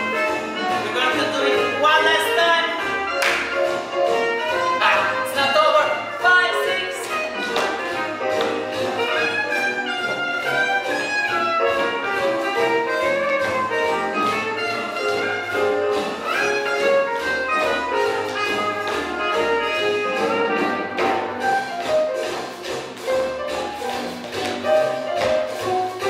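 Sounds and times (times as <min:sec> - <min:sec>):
swing jazz music: 0:00.0 - 0:26.0.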